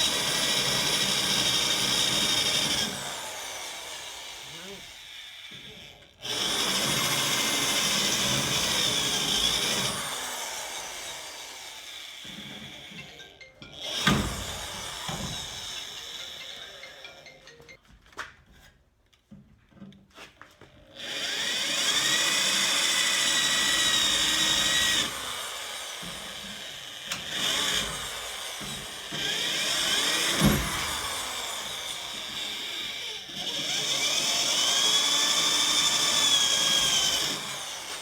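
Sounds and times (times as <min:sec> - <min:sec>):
electric drill whining: 0:00.0 - 0:17.7, 0:20.9 - 0:38.0.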